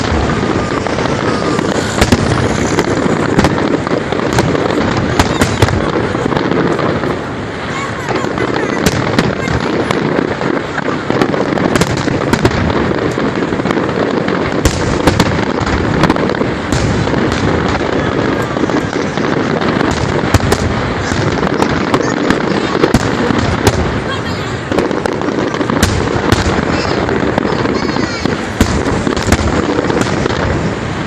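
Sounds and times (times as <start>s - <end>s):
fireworks crackling: 0.0s - 31.0s
fireworks sharp bangs: 0.0s - 31.0s.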